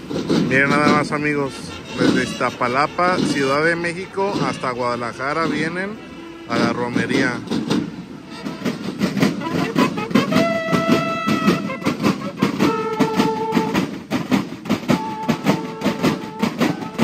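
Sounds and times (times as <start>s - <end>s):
bugles playing held notes: 0.0s - 17.0s
snare and bass drumming: 0.0s - 17.0s.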